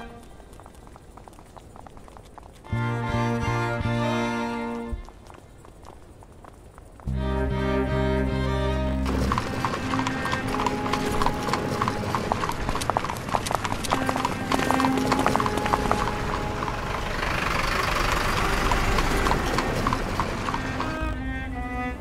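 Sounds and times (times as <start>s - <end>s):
horses' hooves clip-clopping: 0.0s - 21.7s.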